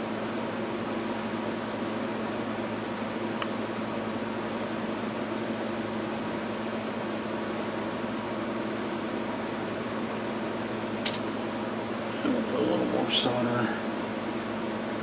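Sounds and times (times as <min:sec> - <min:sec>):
steady fan hum: 0:00.0 - 0:15.0.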